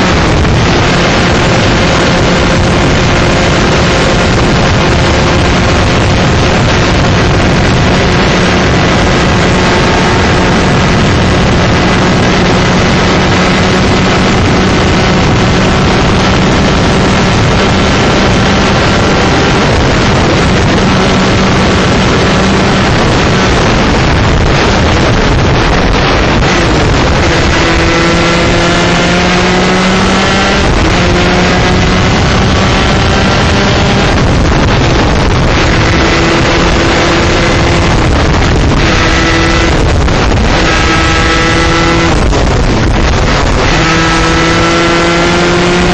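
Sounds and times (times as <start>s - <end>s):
kart engine at high revs: 0.0s - 45.9s
wind noise on microphone: 0.0s - 45.9s.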